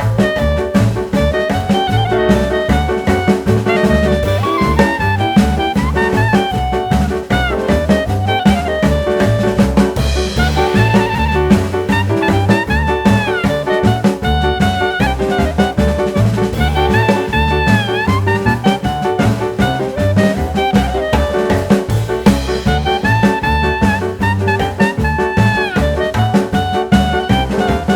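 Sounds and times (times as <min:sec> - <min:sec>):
upbeat jazz music: 0:00.0 - 0:27.9.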